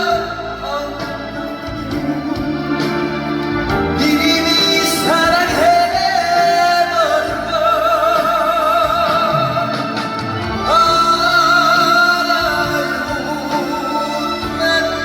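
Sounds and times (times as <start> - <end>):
band accompaniment: 0.0 - 15.0
man singing with vibrato: 0.0 - 15.0.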